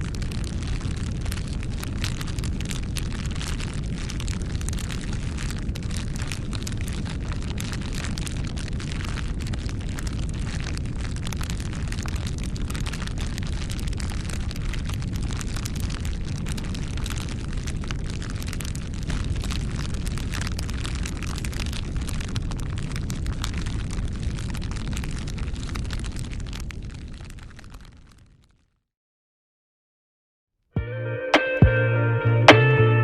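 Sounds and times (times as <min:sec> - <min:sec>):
wood crackling: 0:00.0 - 0:28.4
low rumble of flames: 0:00.0 - 0:28.6.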